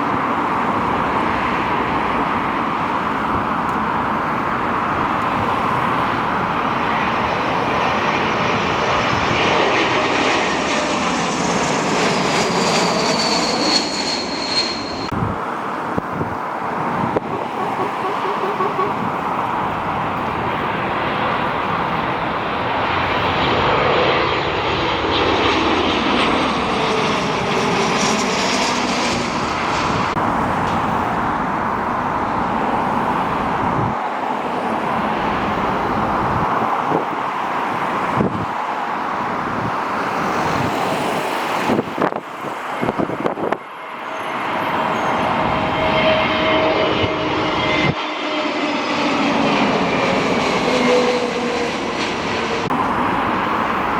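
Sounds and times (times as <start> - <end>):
jet engine rush and whine: 0.0 - 53.9.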